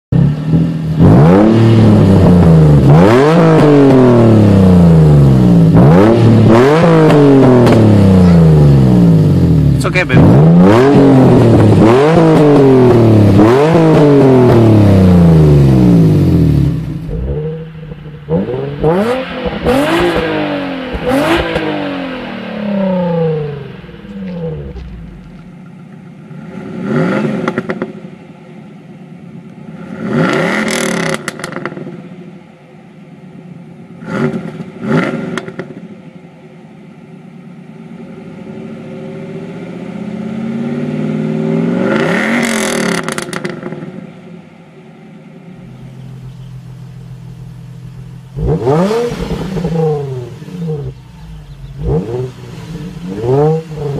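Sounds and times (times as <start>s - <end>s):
car engine revving: 0.1s - 32.3s, 33.3s - 36.0s, 37.6s - 44.3s, 45.4s - 53.9s
car engine idling: 7.3s - 30.0s, 31.0s - 41.4s, 42.7s - 53.9s.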